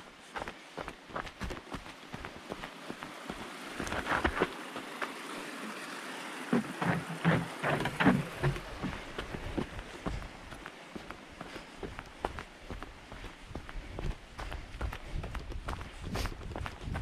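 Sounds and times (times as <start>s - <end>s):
footsteps on woodland trail: 0.0s - 5.6s, 6.4s - 17.0s
rain-like hiss: 0.1s - 14.4s.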